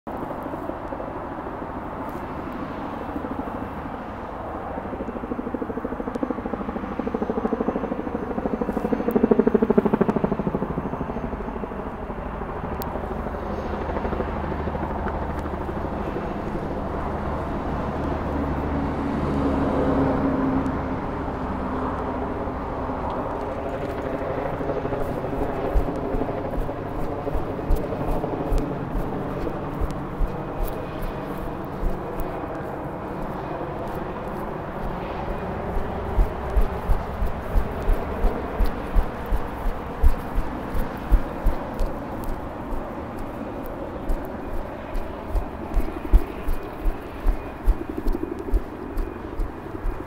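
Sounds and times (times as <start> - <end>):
helicopter rotor beat: 0.1 - 18.5, 22.2 - 50.0.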